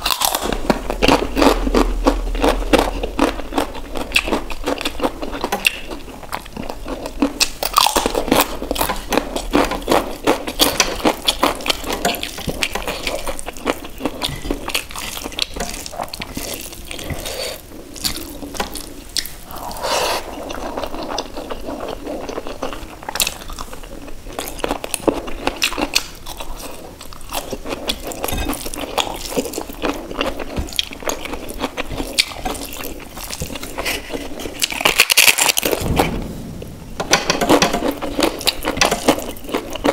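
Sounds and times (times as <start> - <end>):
wet chewing: 0.0 - 36.0.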